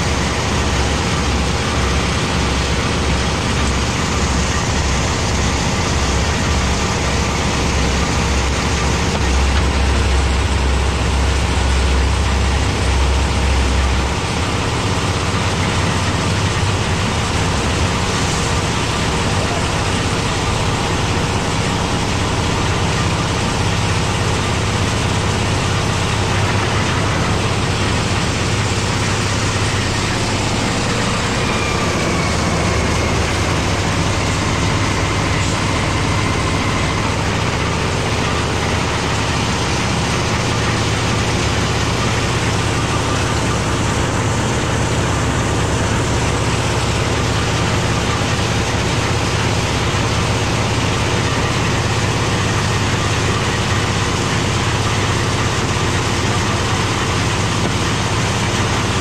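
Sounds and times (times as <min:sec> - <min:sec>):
concrete mixer engine running: 0:00.0 - 0:59.0.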